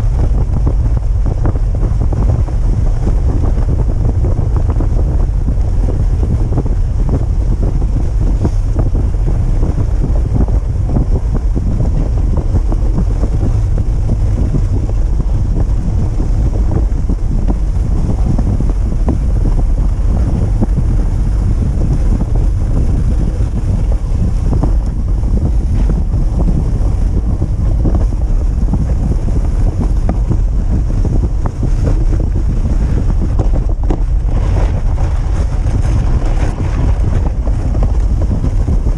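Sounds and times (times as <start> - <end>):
sled rushing over snow: 0.0 - 38.9
wind buffeting microphone: 0.0 - 38.9.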